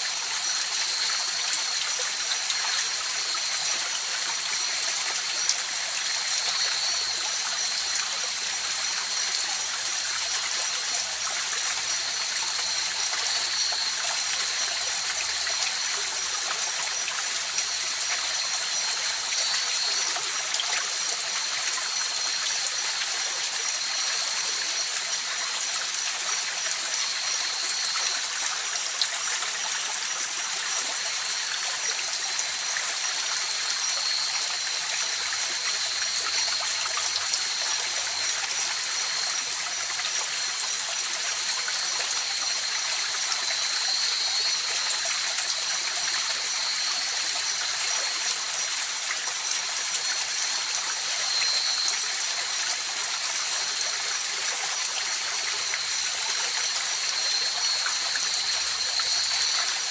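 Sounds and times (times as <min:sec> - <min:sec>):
insects trilling: 0:00.2 - 0:59.9.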